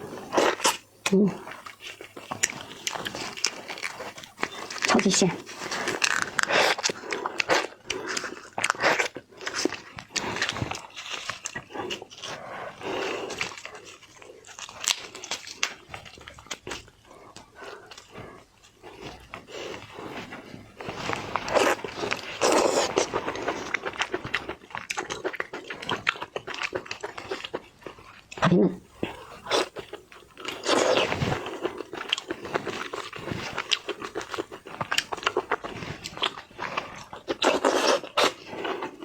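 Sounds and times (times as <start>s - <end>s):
wet chewing and lip-smacking: 0.0s - 39.0s.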